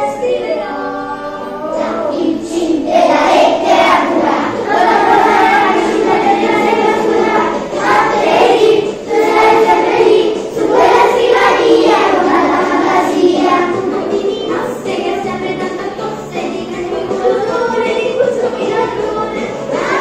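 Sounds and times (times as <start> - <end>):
children singing in chorus: 0.0 - 20.0.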